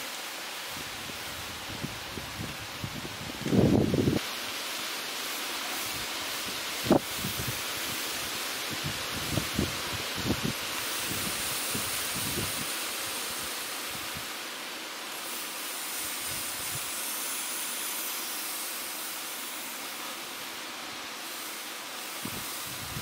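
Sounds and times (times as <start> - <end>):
vaporizer hissing: 0.0 - 23.0.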